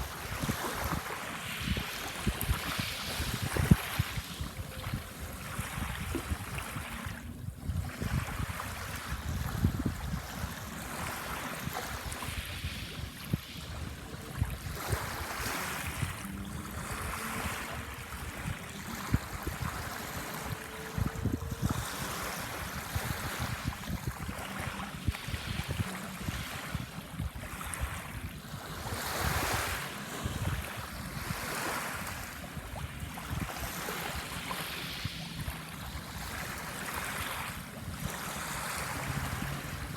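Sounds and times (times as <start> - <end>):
sea waves washing ashore: 0.0 - 39.9
wind buffeting microphone: 0.0 - 39.9.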